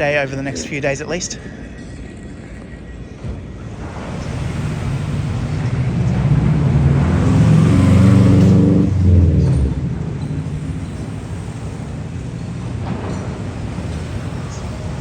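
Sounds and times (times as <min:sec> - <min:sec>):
heavy vehicle engine passing: 0:02.6 - 0:15.0.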